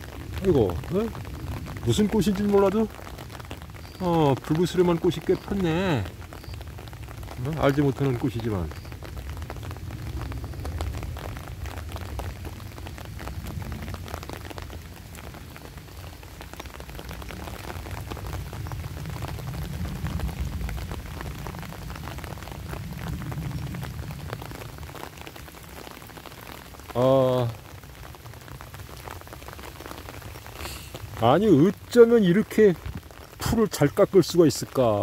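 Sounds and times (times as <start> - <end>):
rain pattering on an umbrella: 0.0 - 35.0.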